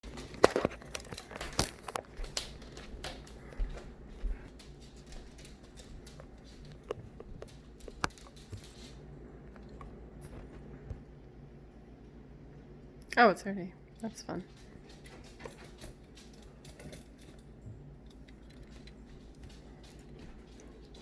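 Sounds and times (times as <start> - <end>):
rustling and crinkling handling: 0.0 - 11.0, 14.5 - 21.0.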